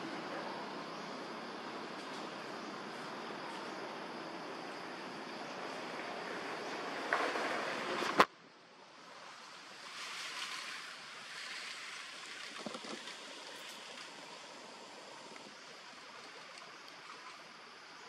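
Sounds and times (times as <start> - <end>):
rushing outdoor background noise: 0.0 - 18.0.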